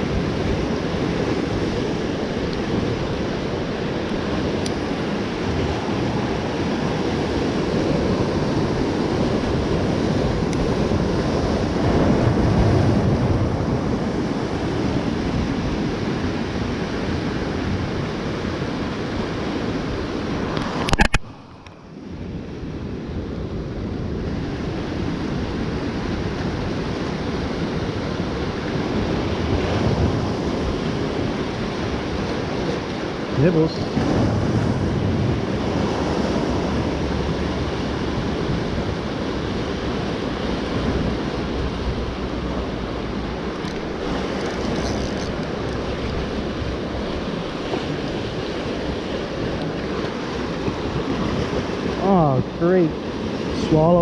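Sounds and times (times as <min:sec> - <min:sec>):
surf washing over rocks: 0:00.0 - 0:54.0
wind buffeting microphone: 0:00.0 - 0:54.0.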